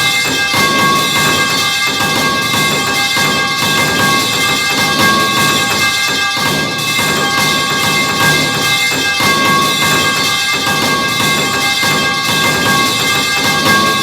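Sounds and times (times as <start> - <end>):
metallic ringing tones: 0.0 - 14.0
overlapping metal pipe clangs: 0.0 - 14.0.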